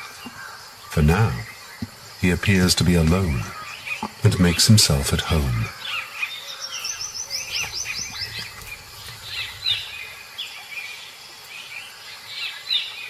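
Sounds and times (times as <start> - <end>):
birds singing and chirping: 0.0 - 13.0.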